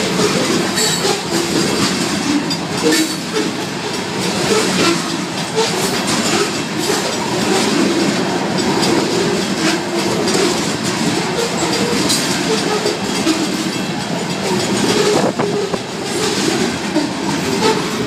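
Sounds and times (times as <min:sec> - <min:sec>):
rail clicks: 0:00.0 - 0:18.0
train wheels rumbling on rail: 0:00.0 - 0:18.0.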